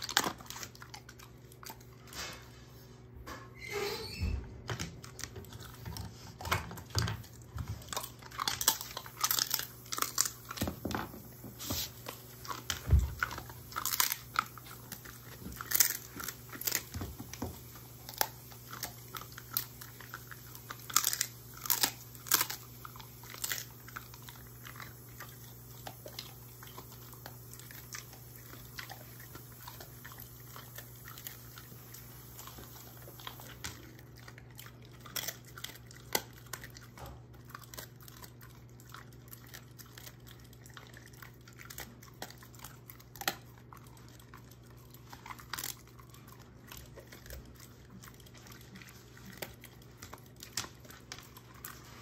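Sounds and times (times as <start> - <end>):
dog chewing crunchy treats: 0.0 - 3.2, 4.6 - 52.0.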